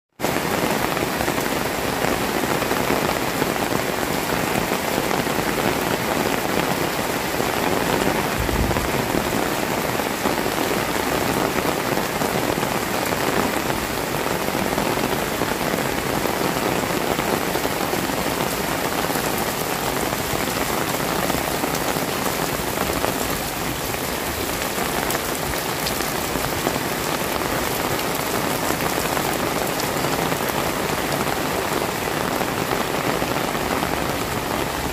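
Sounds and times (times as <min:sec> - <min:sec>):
heavy rain on pavement and roofs: 0:00.1 - 0:34.9.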